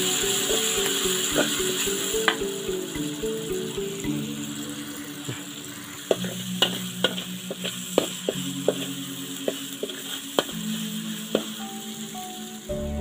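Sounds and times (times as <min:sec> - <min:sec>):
chili paste sizzling in oil: 0:00.0 - 0:13.0.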